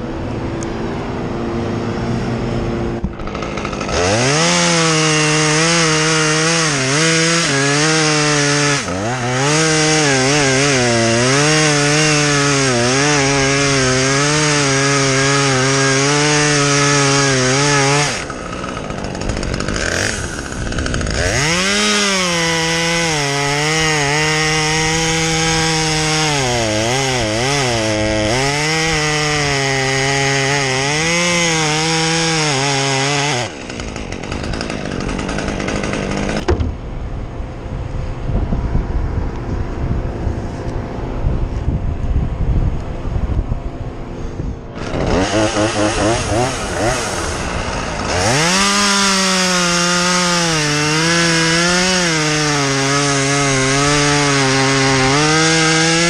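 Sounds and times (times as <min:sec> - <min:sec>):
chainsaw cutting wood: 0:02.2 - 0:36.9, 0:44.0 - 0:56.0.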